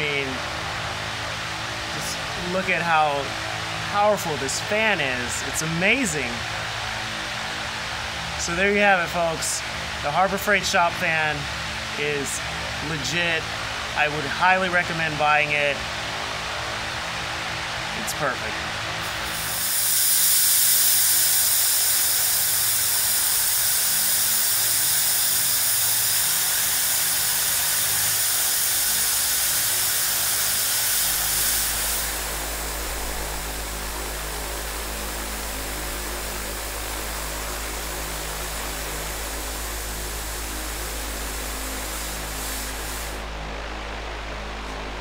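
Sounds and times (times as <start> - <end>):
fan blowing air: 0.0 - 45.0.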